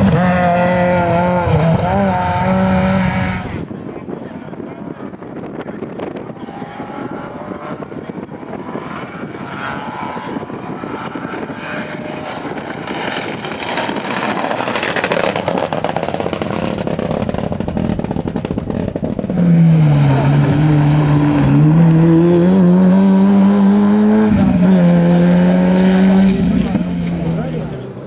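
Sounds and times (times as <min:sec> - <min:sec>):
rally car engine revving: 0:00.0 - 0:03.7, 0:06.0 - 0:28.0.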